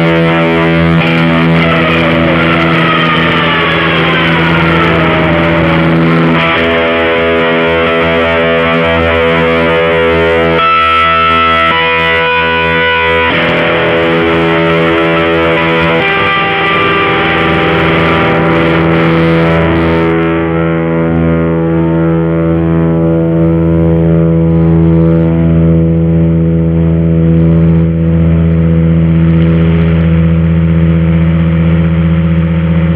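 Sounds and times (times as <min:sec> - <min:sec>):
distorted electric guitar: 0:00.0 - 0:32.9.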